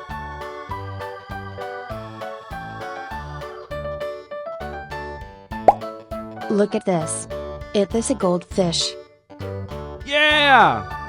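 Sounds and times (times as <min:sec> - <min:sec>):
upbeat keyboard music: 0:00.0 - 0:11.0.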